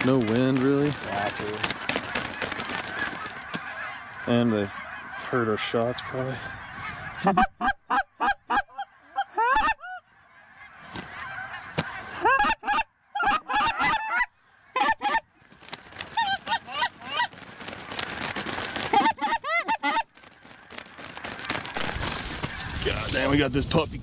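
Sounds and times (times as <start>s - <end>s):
geese honking: 0.0s - 23.3s.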